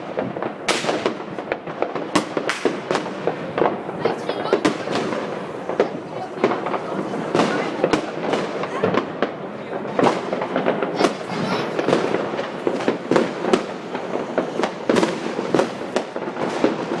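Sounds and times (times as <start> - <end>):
firecrackers crackling: 0.0 - 17.0
fireworks bangs: 0.0 - 17.0.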